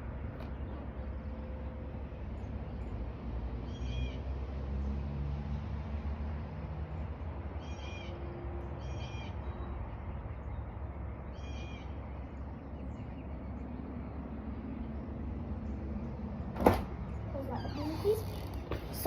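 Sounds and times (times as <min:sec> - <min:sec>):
low outdoor rumble: 0:00.0 - 0:04.2, 0:06.4 - 0:19.0.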